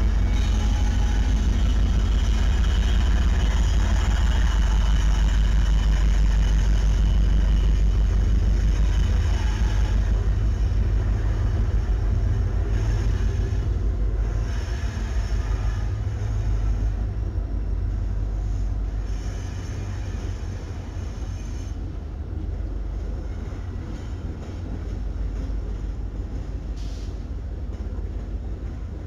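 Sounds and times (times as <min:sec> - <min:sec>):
diesel train rumbling past: 0:00.0 - 0:29.0.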